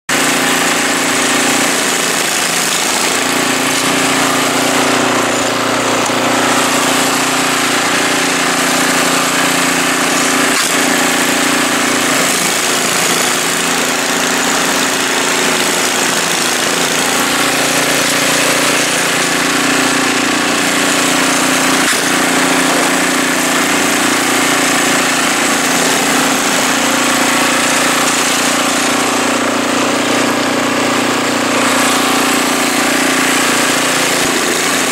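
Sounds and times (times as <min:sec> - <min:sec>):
snowblower engine running: 0:00.0 - 0:34.9.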